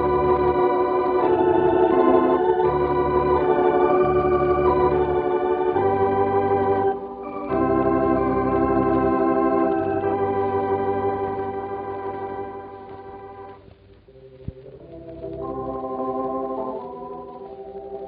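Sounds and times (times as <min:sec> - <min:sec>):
organ playing sustained chords: 0:00.0 - 0:13.6, 0:14.3 - 0:18.0.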